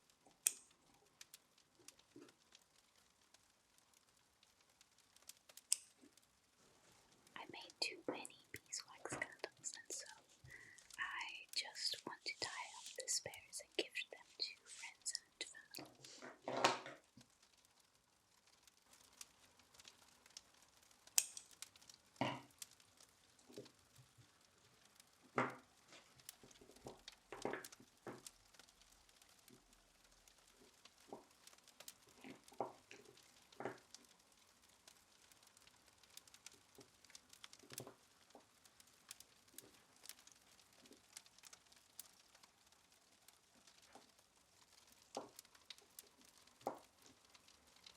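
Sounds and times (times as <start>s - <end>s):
light clicks and taps: 7.2s - 47.9s.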